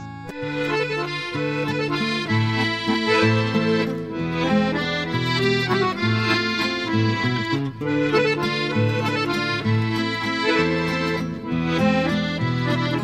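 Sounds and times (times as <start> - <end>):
accordion playing a waltz: 0.0 - 13.0.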